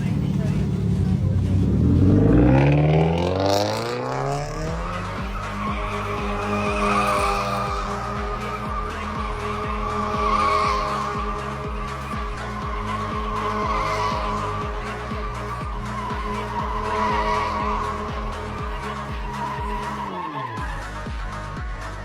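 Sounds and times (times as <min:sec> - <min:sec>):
car engine revving: 0:00.0 - 0:22.0
tyres squealing: 0:03.2 - 0:21.5.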